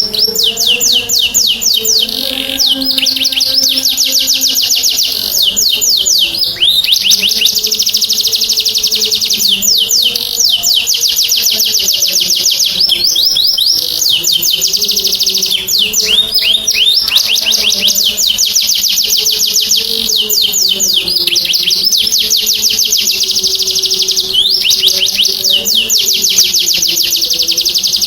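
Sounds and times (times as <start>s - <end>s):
canary singing trills: 0.0s - 28.0s.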